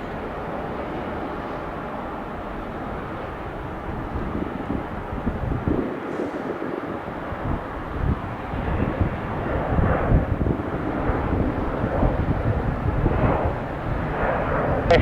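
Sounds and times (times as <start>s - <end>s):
jet airliner taking off: 0.0s - 15.0s.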